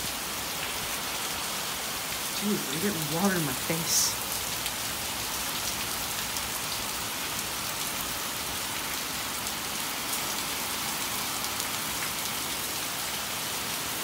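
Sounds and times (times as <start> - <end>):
heavy rain on wet pavement: 0.0 - 14.0.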